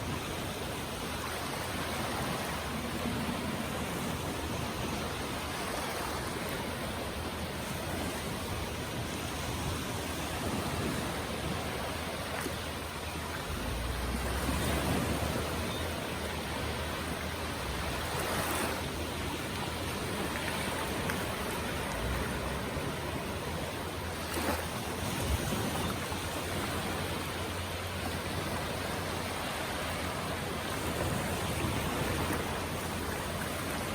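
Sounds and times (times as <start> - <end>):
sea waves breaking: 0.0 - 33.9.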